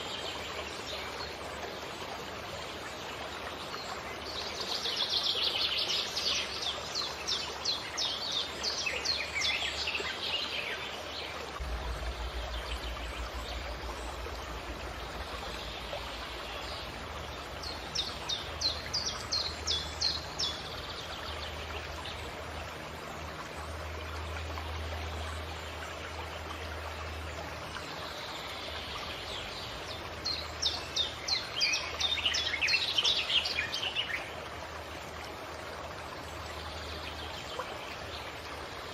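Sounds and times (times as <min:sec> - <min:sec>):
stream running water: 0:00.0 - 0:38.9.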